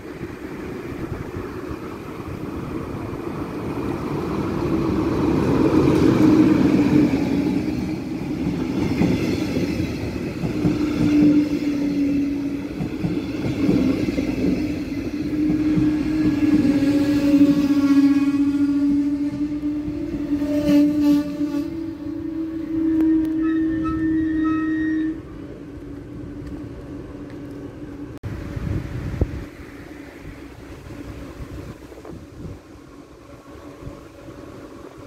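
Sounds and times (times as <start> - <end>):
train rumbling on tracks: 0.0 - 35.0.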